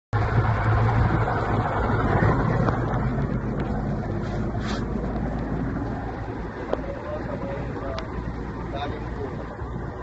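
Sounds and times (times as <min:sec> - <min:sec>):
motorboat engine humming: 0:00.1 - 0:10.0
wind buffeting microphone: 0:00.2 - 0:10.0.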